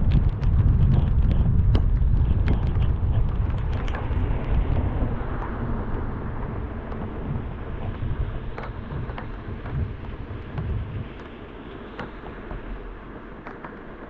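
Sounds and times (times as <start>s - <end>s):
car wind and road noise: 0.0s - 14.0s.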